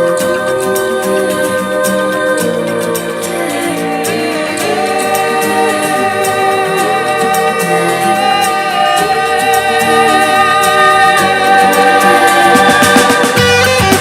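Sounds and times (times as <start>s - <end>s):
slow backing accompaniment: 0.0s - 14.0s
sad instrumental melody: 0.2s - 14.0s.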